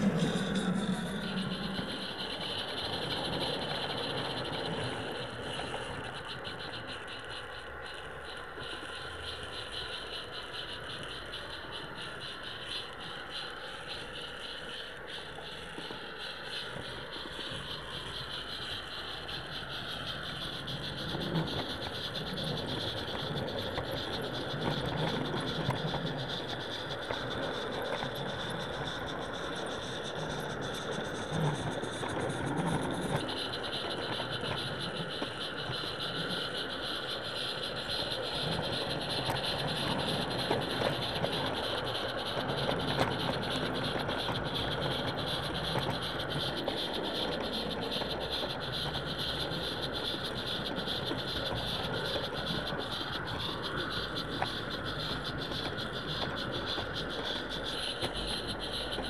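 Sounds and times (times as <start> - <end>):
steam locomotive hiss: 0.0 - 59.0
wheels rattling and clicking: 0.0 - 59.0.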